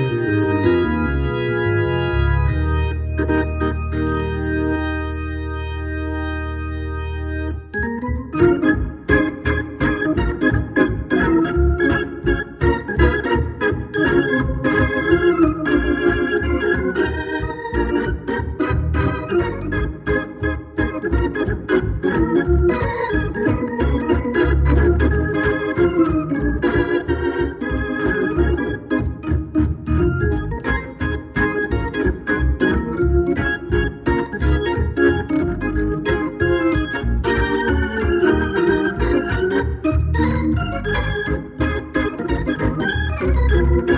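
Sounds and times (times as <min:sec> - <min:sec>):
organ chords: 0:00.0 - 0:43.9.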